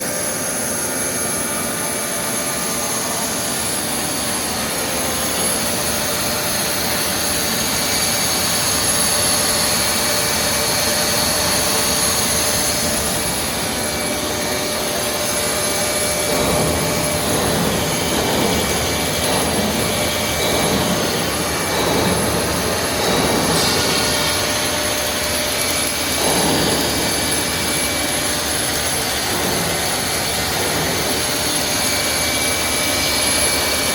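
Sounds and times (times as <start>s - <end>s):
high machine whines: 0.0s - 33.9s
machine whir: 0.0s - 33.9s.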